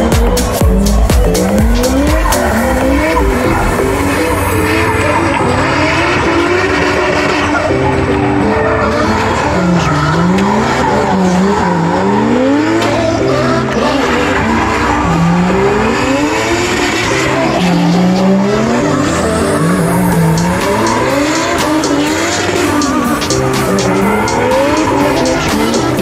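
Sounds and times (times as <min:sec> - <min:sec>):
car engine revving: 0:00.0 - 0:26.0
tyres squealing: 0:00.0 - 0:26.0.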